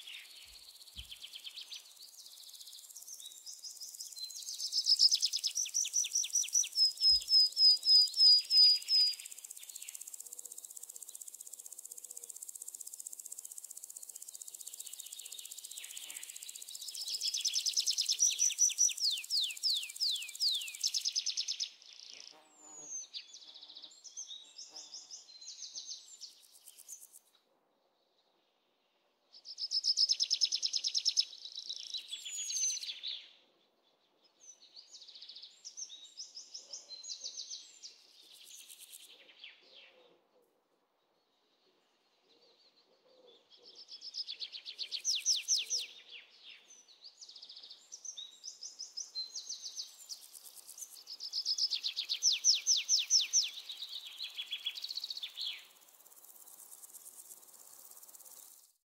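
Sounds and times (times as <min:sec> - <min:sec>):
songbirds singing: 0:00.0 - 0:27.2, 0:29.3 - 0:40.1, 0:40.9 - 0:58.8
insect chorus: 0:00.0 - 0:27.3, 0:29.5 - 0:33.1, 0:34.9 - 0:39.1, 0:44.4 - 0:46.0, 0:47.2 - 0:58.8.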